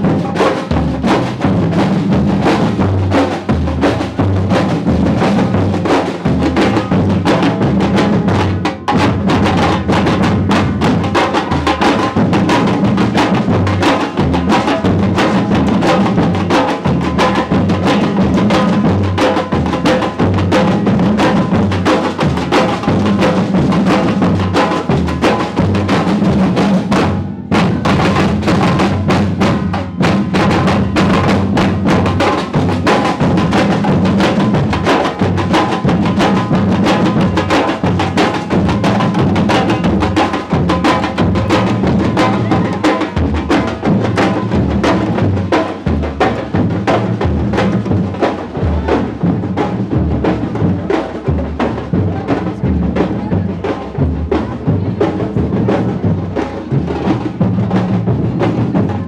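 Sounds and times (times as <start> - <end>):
drums in steady rhythm: 0.0 - 59.0.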